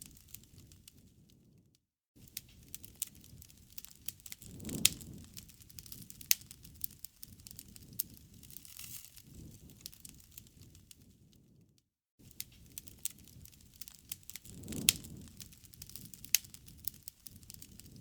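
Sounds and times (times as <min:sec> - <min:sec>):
campfire crackling: 0:00.0 - 0:01.2, 0:02.2 - 0:11.5, 0:12.2 - 0:18.0
low rumble of flames: 0:00.0 - 0:18.0
sharp pops of fire: 0:02.2 - 0:11.5, 0:12.2 - 0:18.0.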